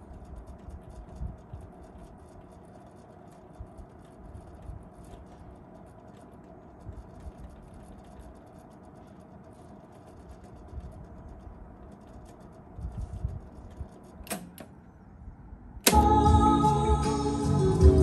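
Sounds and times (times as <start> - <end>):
tape transport whirring: 0.0 - 18.0.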